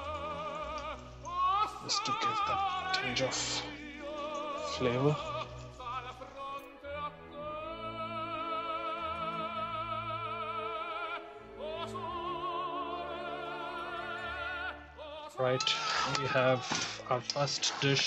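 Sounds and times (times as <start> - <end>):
operatic singing with vibrato: 0.0 - 18.0.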